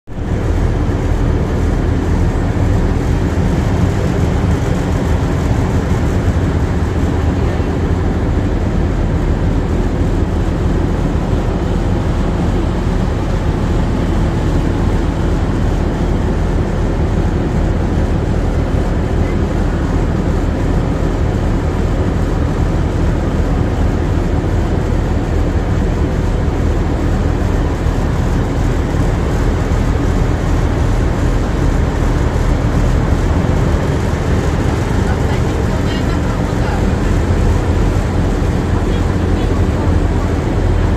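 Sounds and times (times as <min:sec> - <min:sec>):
ship engine droning: 0:00.1 - 0:40.9.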